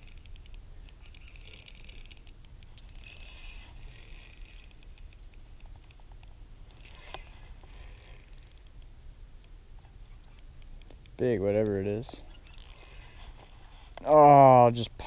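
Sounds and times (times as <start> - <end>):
fishing reel clicking and whirring: 0.0 - 9.6, 10.2 - 13.6
low steady rumble: 0.0 - 15.0.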